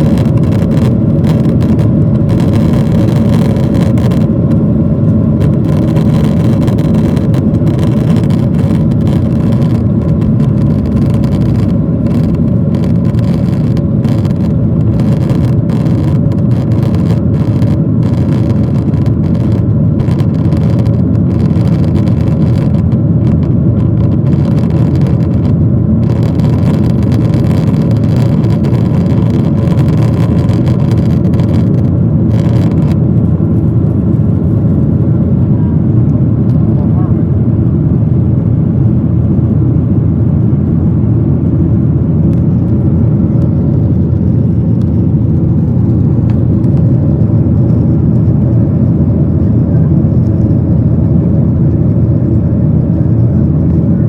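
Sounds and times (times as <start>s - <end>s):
faint steady hum: 0.0s - 54.0s
jet engine noise in cabin: 0.0s - 54.0s.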